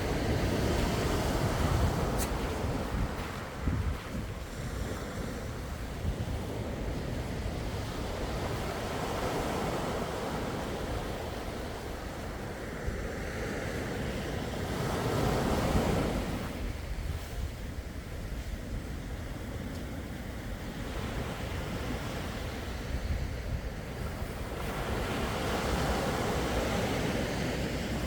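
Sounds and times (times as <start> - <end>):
sea waves washing in: 0.0 - 28.0
wind rumble on microphone: 0.0 - 28.0.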